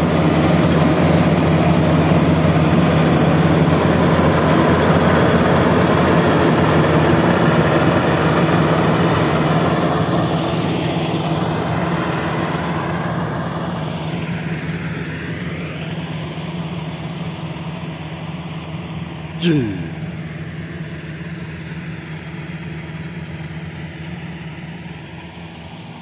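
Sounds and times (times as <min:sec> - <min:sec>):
combine harvester engine droning: 0:00.0 - 0:26.0.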